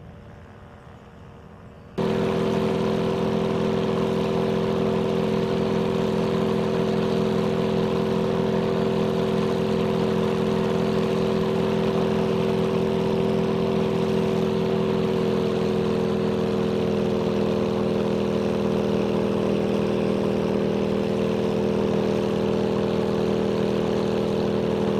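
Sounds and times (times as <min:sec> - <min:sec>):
propeller engine running: 0:00.0 - 0:24.9.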